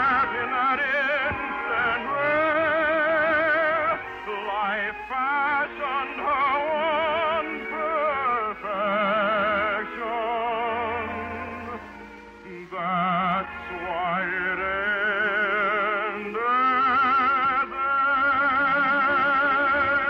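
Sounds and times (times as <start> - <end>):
musical accompaniment: 0.0 - 20.0
operatic singing with vibrato: 0.0 - 20.0.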